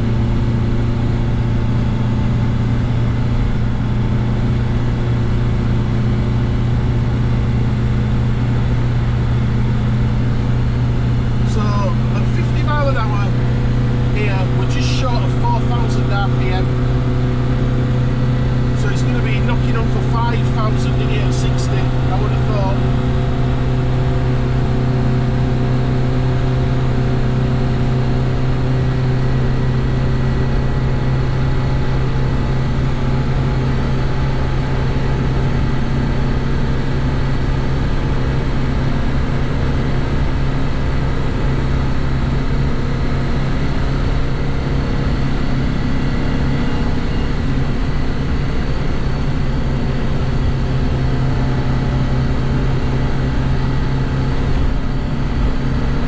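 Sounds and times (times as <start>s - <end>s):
car engine running steadily: 0.0s - 56.0s
road noise: 0.0s - 56.0s.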